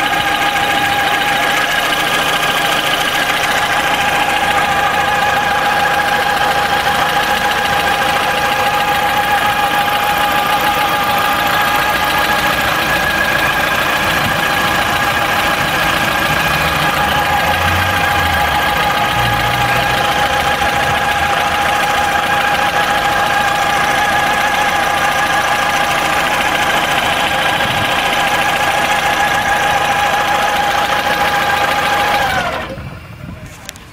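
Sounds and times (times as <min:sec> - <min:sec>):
car engine running: 0:00.0 - 0:33.9.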